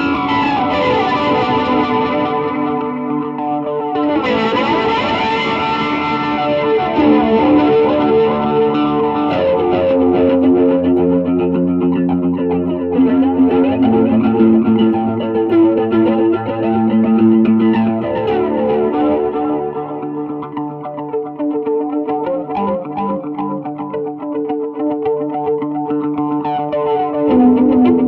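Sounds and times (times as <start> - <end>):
electric guitar with flanger: 0.0 - 28.0.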